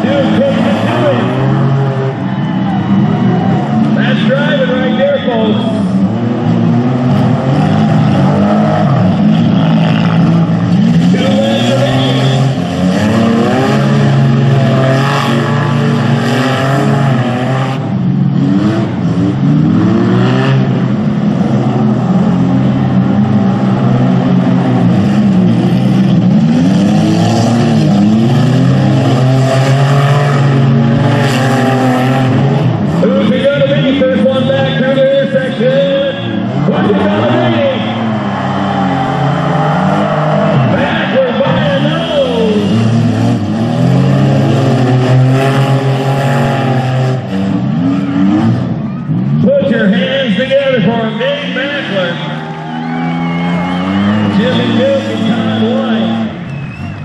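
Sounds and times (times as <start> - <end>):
car engines racing and revving: 0.0 - 57.0.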